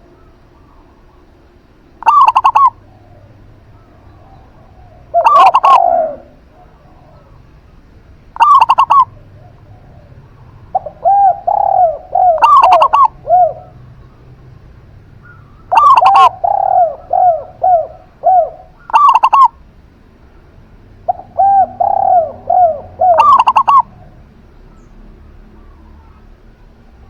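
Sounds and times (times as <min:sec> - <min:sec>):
low falling dove coos: 0:00.0 - 0:19.7, 0:20.9 - 0:27.0.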